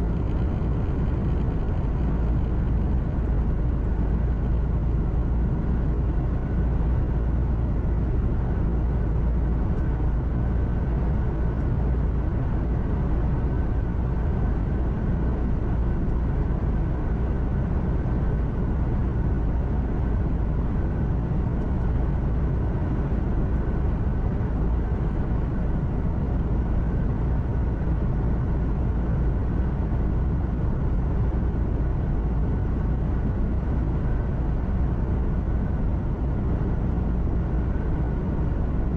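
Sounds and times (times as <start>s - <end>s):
faint steady whine: 0.0s - 38.9s
road and tyre noise: 0.0s - 38.9s.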